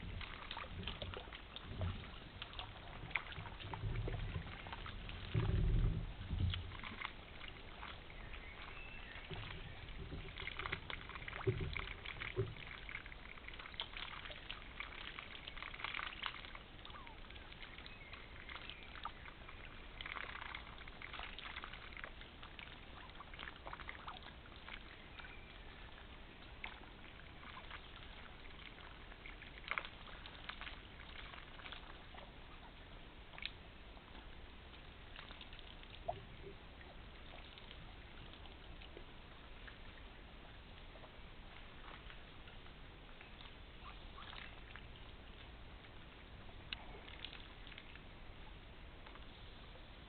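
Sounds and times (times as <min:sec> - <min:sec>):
water splashing and trickling: 0:00.0 - 0:50.0.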